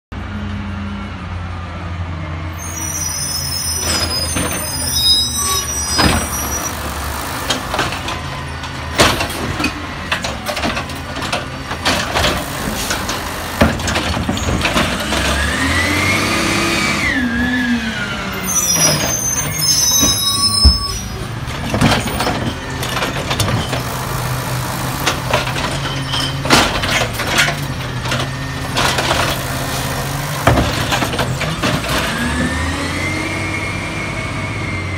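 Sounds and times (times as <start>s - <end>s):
hydraulic arm whine: 2.6s - 34.9s
garbage truck engine running: 4.0s - 34.9s.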